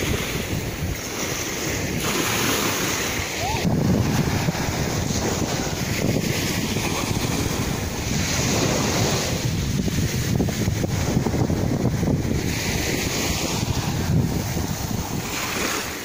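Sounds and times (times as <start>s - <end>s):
small waves washing onto shore: 0.0s - 16.0s
wind buffeting microphone: 0.0s - 16.0s.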